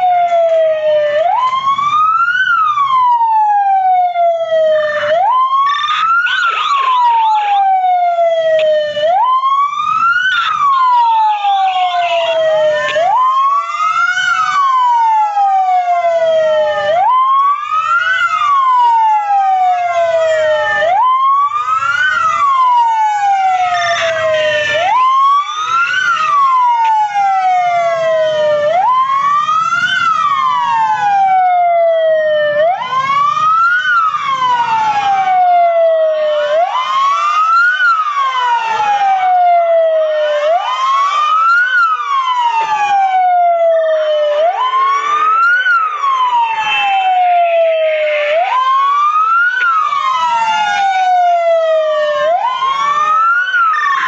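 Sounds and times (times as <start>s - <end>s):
fire engine sirens wailing: 0.0s - 54.0s.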